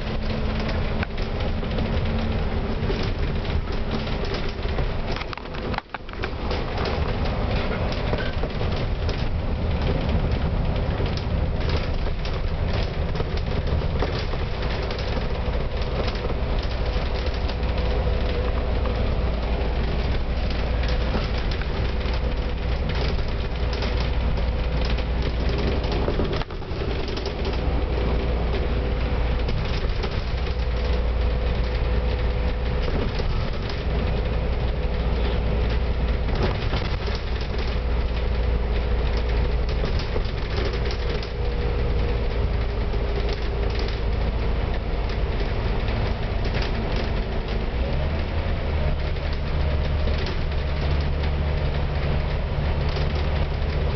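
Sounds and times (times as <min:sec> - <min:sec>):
bus engine drone: 0:00.0 - 0:53.9
road noise: 0:00.0 - 0:53.9.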